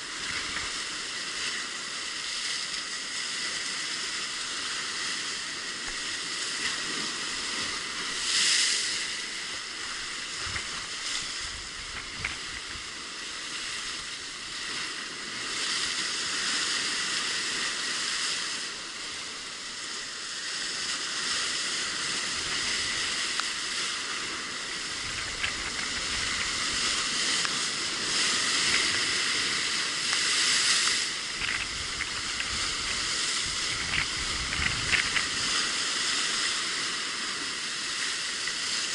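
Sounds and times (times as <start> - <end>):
hiss of foaming surf: 0.0 - 38.9
waves breaking against rocks: 0.0 - 38.9.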